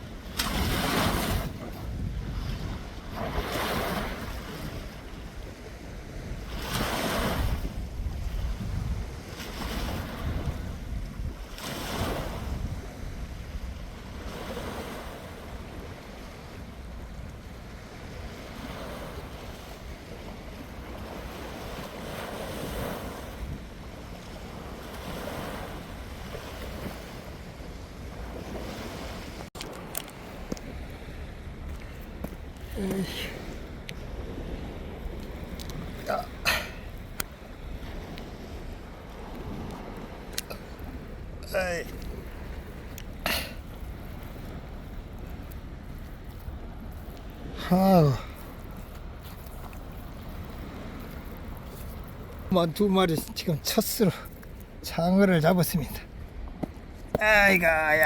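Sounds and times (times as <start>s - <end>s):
wind rumbling on microphone: 0.0s - 53.6s
sea waves washing in: 0.0s - 58.0s.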